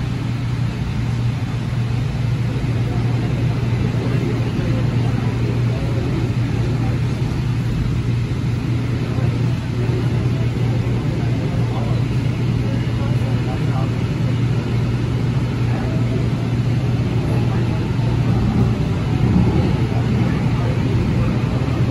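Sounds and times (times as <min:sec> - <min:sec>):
train car equipment humming: 0:00.0 - 0:21.9
faint voices: 0:01.9 - 0:21.9.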